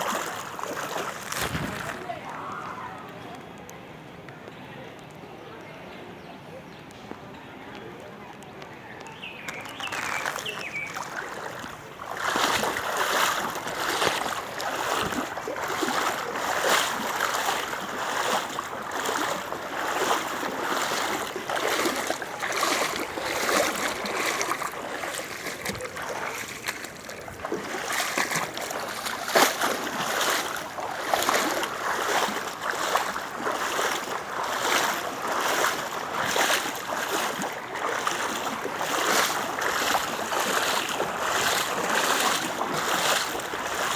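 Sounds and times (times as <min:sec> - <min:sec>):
rain and splashing water: 0:00.0 - 0:03.7, 0:09.5 - 0:43.9.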